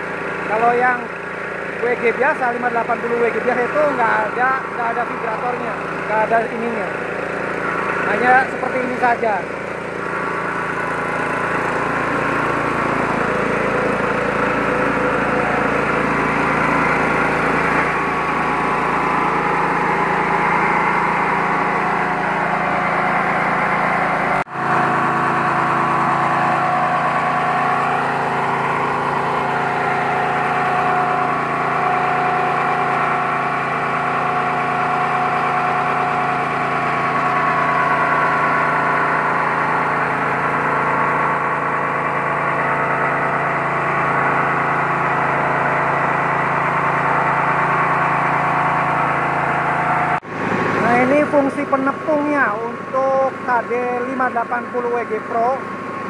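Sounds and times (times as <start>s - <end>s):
rice milling machine running: 0.0s - 56.0s.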